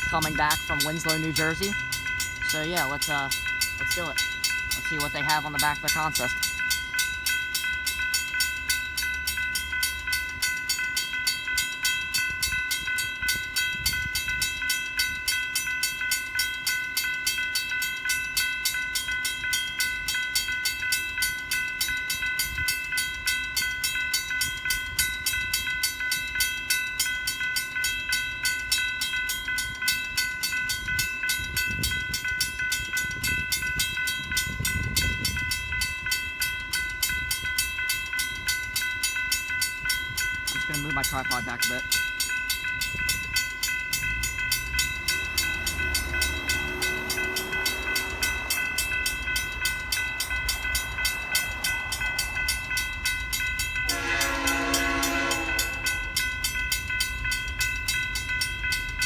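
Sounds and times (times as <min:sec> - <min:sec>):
railroad crossing bell ringing: 0:00.0 - 0:59.0
train cars rumbling past: 0:00.0 - 0:59.0.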